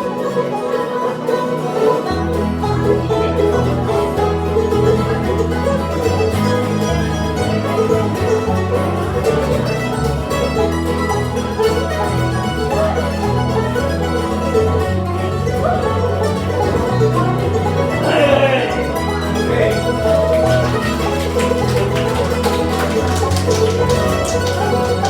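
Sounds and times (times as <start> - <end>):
plucked string instruments: 0.0 - 25.0
bass line: 2.1 - 25.0.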